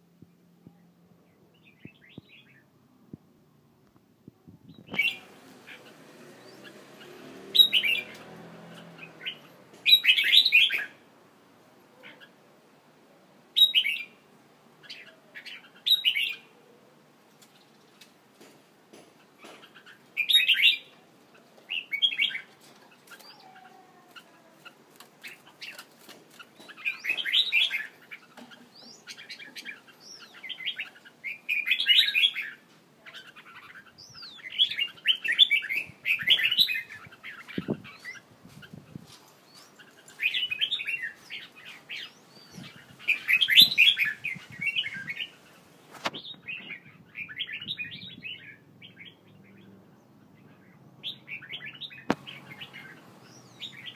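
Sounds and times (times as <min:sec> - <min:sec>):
songbirds twittering: 0:03.9 - 0:11.1, 0:13.6 - 0:53.9.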